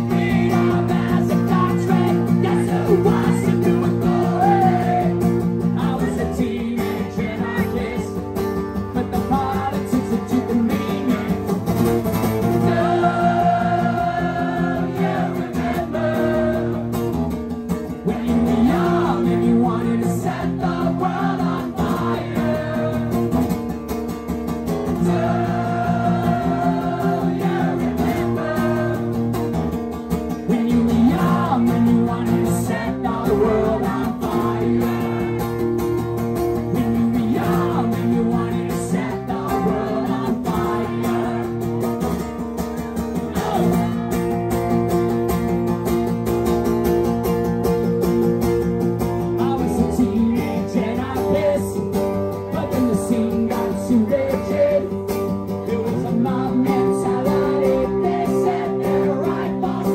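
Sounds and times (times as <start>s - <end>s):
strummed acoustic guitar: 0.0s - 59.9s.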